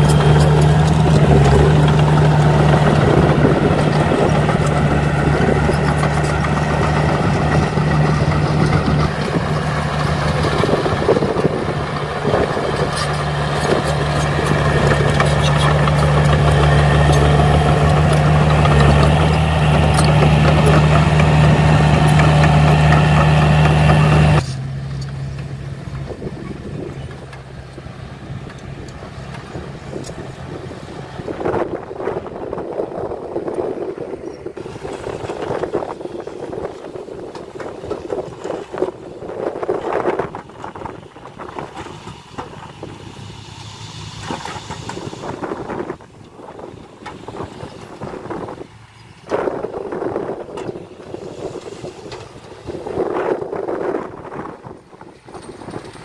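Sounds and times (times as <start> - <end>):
clanking tracks: 0.0 - 33.6, 34.2 - 56.0
bulldozer diesel engine under load: 0.0 - 56.0.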